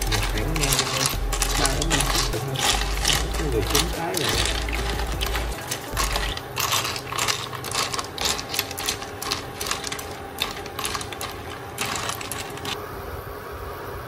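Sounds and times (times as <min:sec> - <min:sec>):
shells clattering in a cooking pot: 0:00.0 - 0:12.8.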